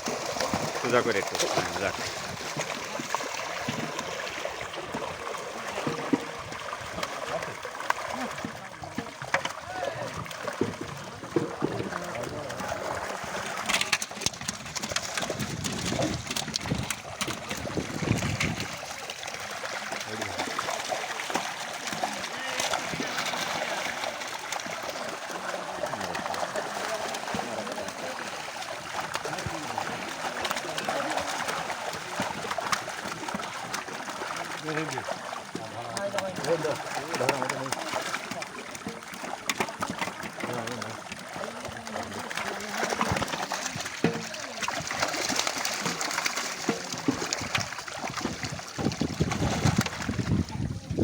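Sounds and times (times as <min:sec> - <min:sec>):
water splashes and drips: 0:00.0 - 0:51.0
water trickling: 0:00.0 - 0:51.0.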